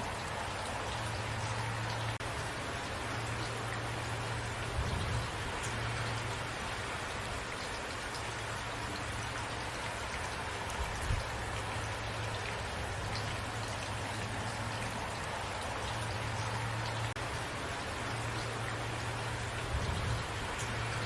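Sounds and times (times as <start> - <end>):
raindrops ticking: 0.0 - 21.0
steady rain hiss: 0.0 - 21.0.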